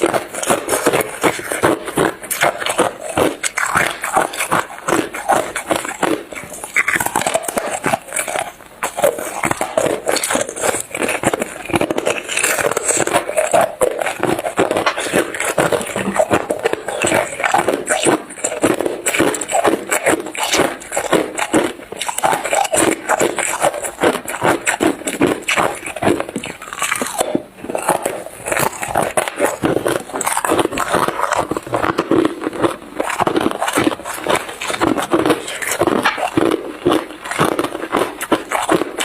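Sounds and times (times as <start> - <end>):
ice being crunched and chewed: 0.0 - 39.0.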